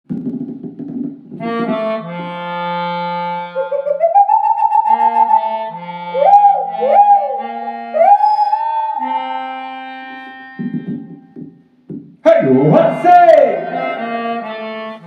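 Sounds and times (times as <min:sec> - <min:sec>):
melodica playing: 0:01.4 - 0:11.5, 0:12.8 - 0:15.0.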